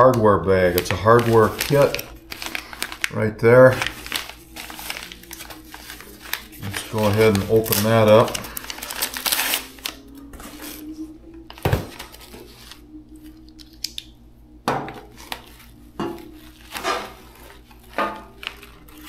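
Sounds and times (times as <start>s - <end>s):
padded envelope handled: 0.6s - 13.8s, 15.0s - 19.0s.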